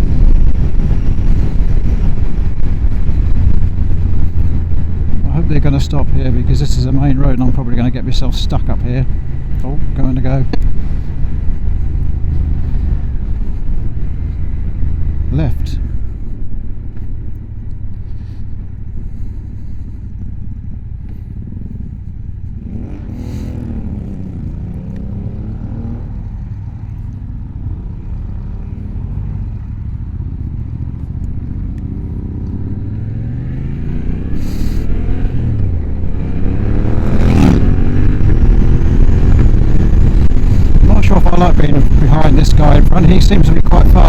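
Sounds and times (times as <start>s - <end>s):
motorcycle engine accelerating: 0.0s - 44.0s
wind rumble on microphone: 0.0s - 44.0s.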